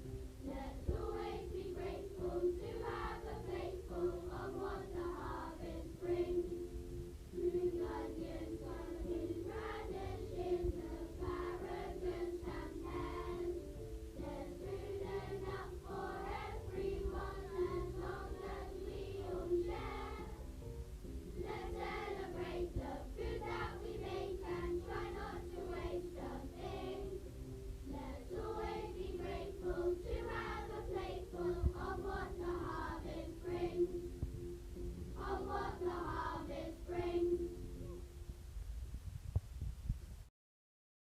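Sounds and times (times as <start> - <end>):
children singing together: 0.4 - 6.6, 7.4 - 13.6, 14.2 - 20.5, 21.4 - 27.2, 27.9 - 34.0, 35.2 - 37.4.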